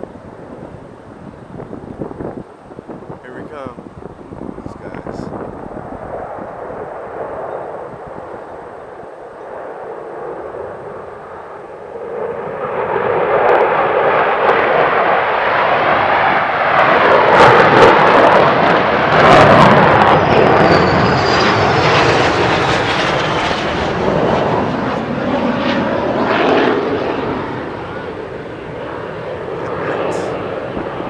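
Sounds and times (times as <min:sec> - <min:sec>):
fighter jet roar passing: 0:00.0 - 0:31.0.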